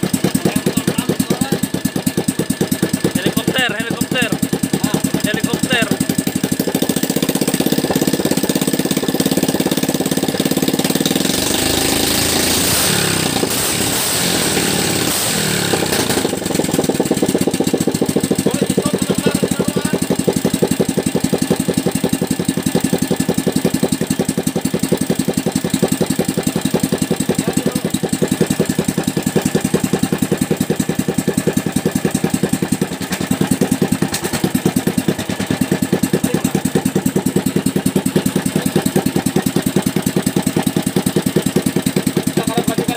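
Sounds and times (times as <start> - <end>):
small engine revving and idling: 0.0 - 42.9.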